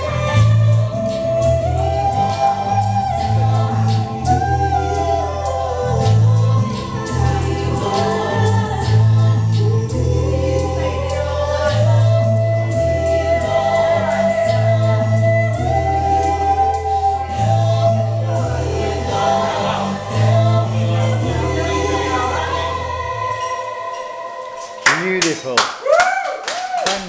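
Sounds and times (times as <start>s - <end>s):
person singing: 0.0s - 25.2s
bass line: 0.0s - 25.5s.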